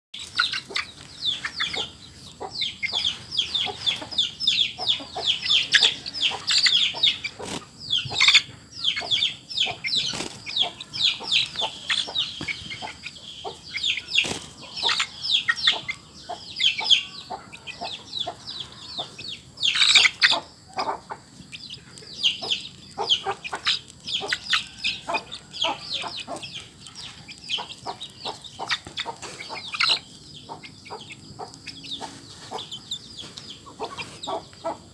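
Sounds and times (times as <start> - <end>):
chick peeping: 0.2 - 34.9.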